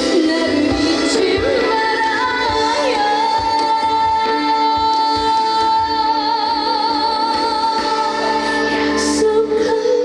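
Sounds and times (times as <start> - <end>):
backing track music: 0.0 - 10.0.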